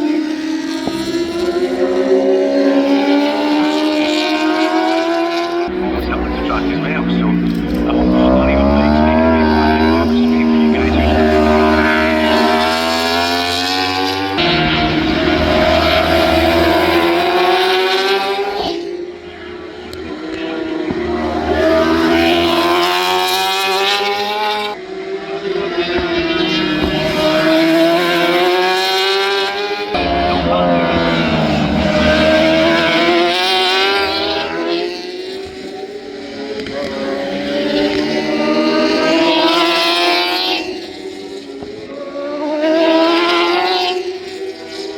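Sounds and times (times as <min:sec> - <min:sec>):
motorbike engines at high revs: 0:00.0 - 0:44.9.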